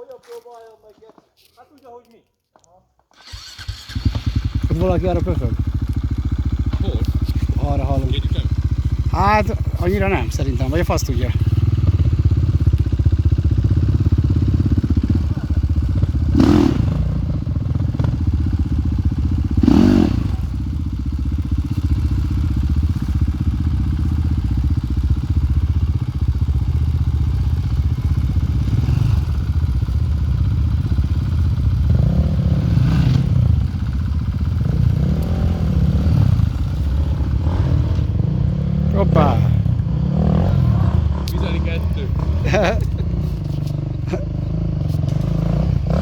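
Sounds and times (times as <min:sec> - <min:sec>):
motorcycle engine running: 0:03.3 - 0:46.0.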